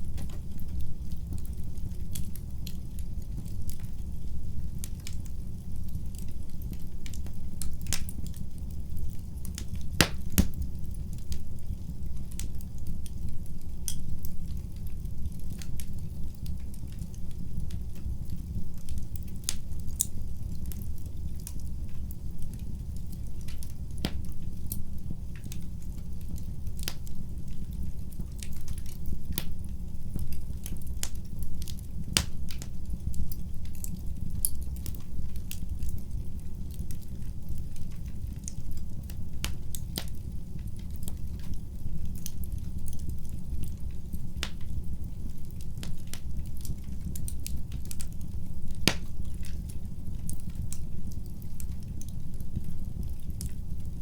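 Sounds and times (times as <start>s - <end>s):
wood fire burning in fireplace: 0.0s - 54.0s.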